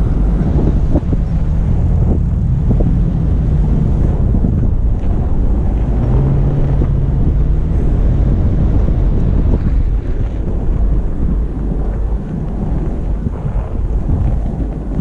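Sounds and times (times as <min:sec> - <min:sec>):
vehicle rumbling on the move: 0:00.0 - 0:15.0
wind buffeting microphone: 0:00.0 - 0:15.0.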